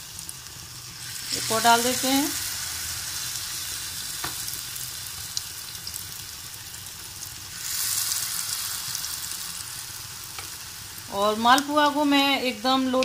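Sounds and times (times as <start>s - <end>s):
batter deep-frying in hot oil: 0.0s - 13.0s.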